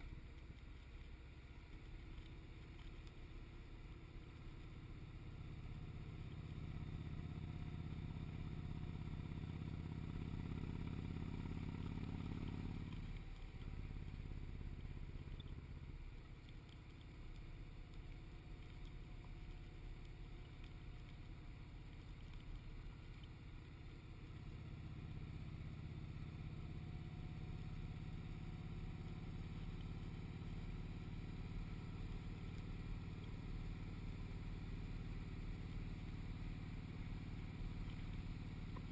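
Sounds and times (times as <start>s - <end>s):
motorcycle engine drone: 0.0s - 38.9s
road noise: 0.0s - 38.9s.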